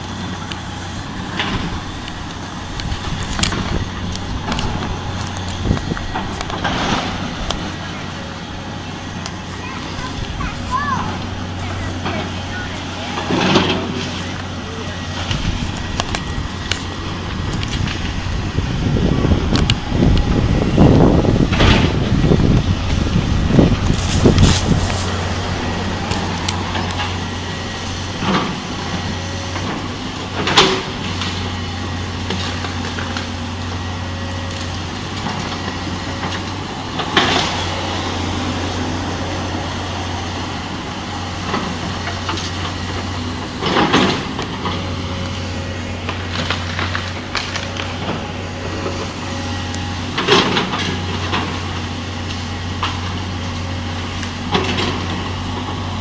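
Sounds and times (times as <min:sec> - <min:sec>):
tractor engine running: 0:00.0 - 0:56.0
wood cracking and crunching: 0:00.3 - 0:10.9, 0:11.5 - 0:56.0.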